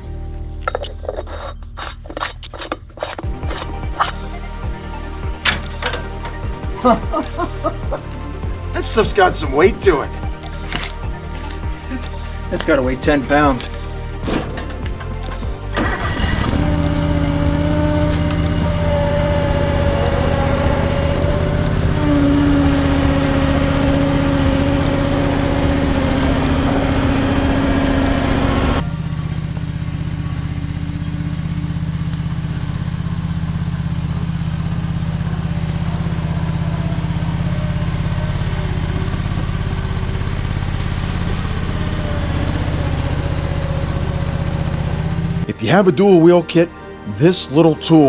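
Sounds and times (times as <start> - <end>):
steady whine: 0.0 - 45.5
tractor engine running: 0.0 - 48.0.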